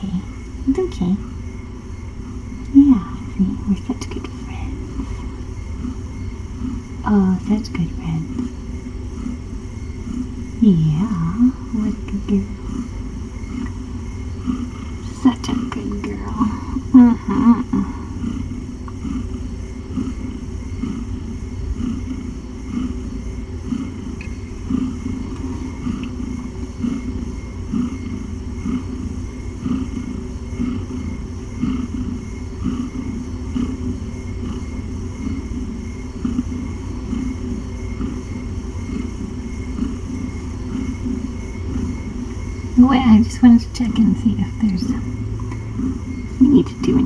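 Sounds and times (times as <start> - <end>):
cat purring: 0.0 - 47.0.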